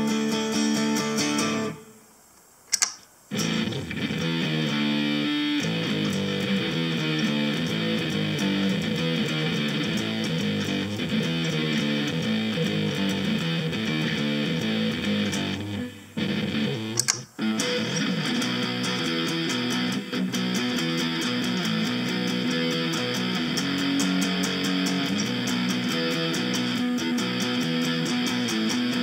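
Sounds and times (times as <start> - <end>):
electric guitar picking and strumming: 0.0 - 1.9, 2.8 - 29.0.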